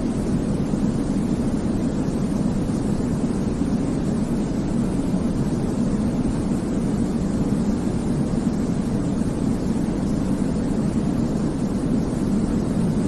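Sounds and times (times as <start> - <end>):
deep white noise rumble: 0.0 - 13.0.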